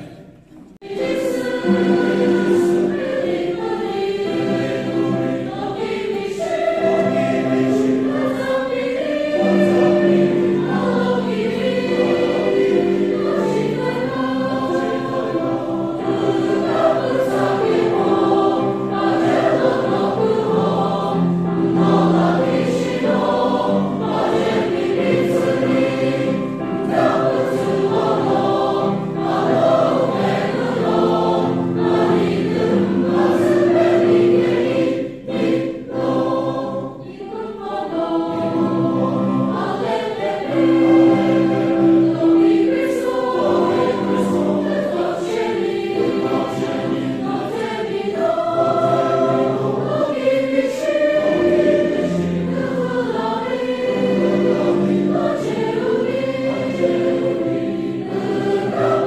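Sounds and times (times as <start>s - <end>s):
male choir singing a hymn: 0.0s - 59.0s.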